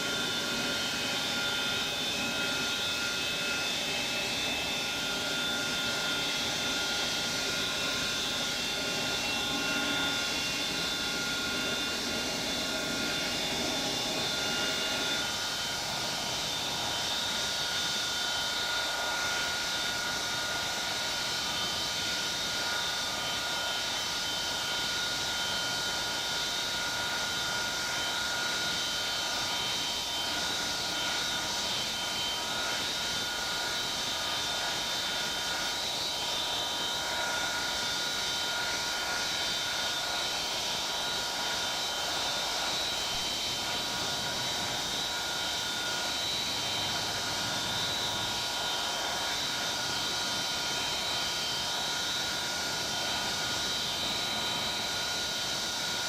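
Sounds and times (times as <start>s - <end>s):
high steady engine whines: 0.0s - 56.0s
jet engines roaring: 0.0s - 56.0s.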